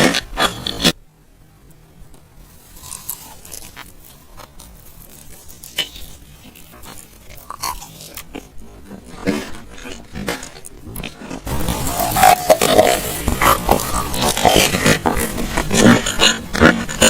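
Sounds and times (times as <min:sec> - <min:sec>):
chewing: 0:02.7 - 0:17.0.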